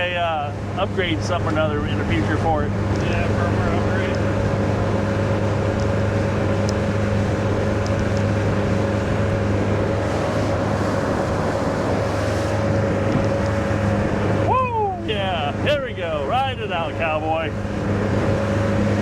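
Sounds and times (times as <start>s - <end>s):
boat engine running: 0.0s - 19.0s
wind and water rushing: 0.0s - 19.0s.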